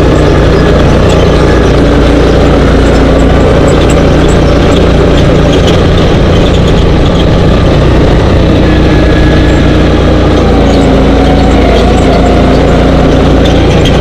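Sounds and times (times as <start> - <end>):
dune buggy engine running: 0.0 - 14.0
wind buffeting microphone: 0.0 - 14.0.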